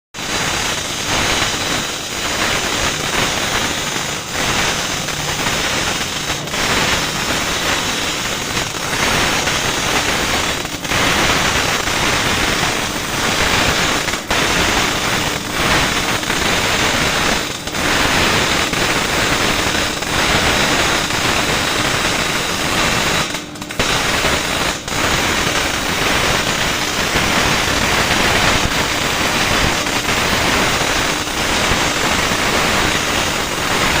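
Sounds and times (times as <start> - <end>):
welding arc crackling: 0.2 - 34.0.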